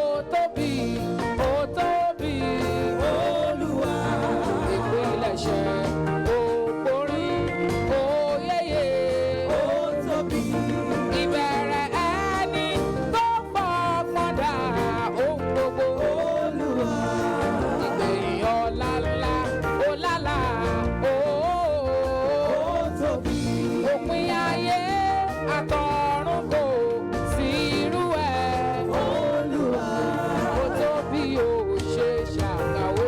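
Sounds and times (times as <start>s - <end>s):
gospel band music: 0.0s - 33.0s.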